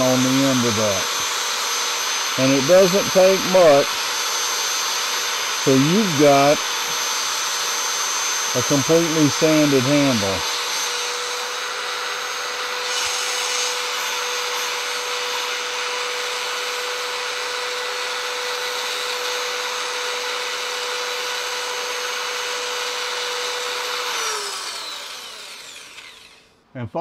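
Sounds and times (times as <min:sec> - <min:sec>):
power sander sanding wood: 0:00.0 - 0:26.4.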